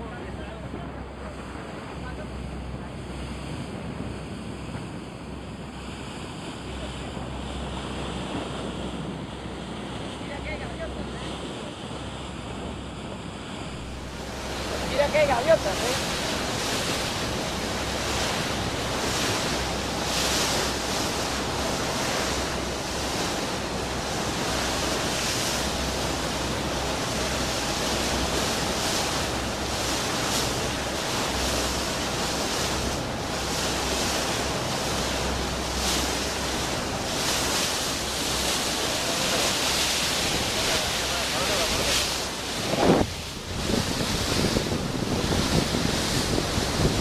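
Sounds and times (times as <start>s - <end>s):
wind and sea water rushing: 0.0s - 47.0s
wind buffeting microphone: 0.4s - 47.0s.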